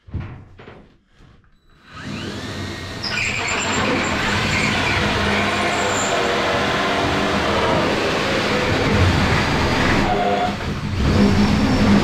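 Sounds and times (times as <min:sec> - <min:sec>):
drill grinding through plasterboard: 0:01.8 - 0:12.0.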